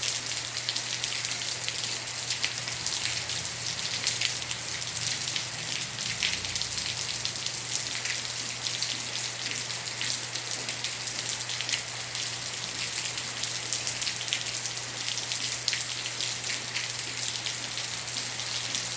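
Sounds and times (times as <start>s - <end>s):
light rain falling: 0.0s - 18.9s.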